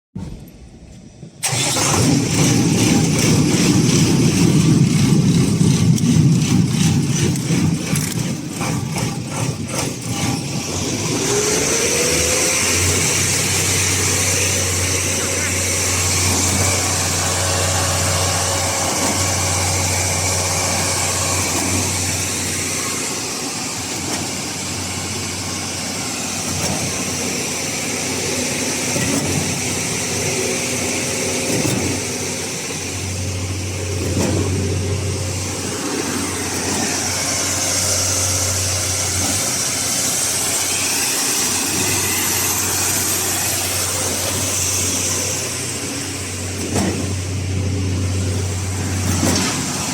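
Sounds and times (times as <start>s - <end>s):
pump engine running: 1.3s - 49.9s.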